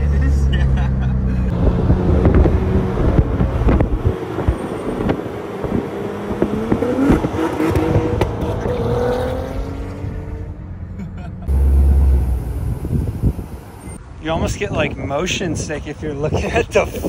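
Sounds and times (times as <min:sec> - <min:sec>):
car engines accelerating: 0:00.0 - 0:14.0.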